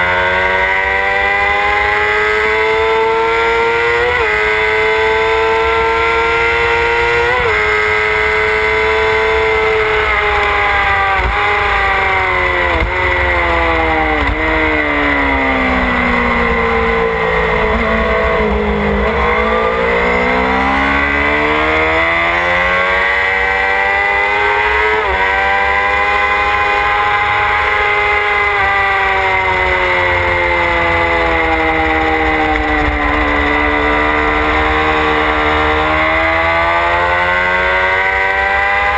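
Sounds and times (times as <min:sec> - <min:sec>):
motorcycle engine at speed: 0:00.0 - 0:38.9.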